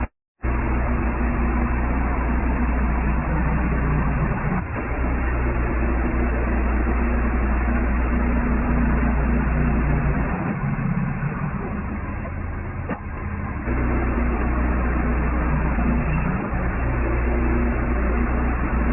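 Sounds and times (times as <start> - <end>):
bandsaw mill cutting log: 0.5 - 18.9.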